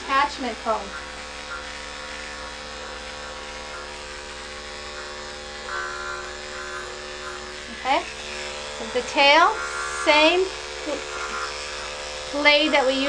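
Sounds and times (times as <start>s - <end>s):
electric dog clipper buzzing: 0.0s - 13.0s.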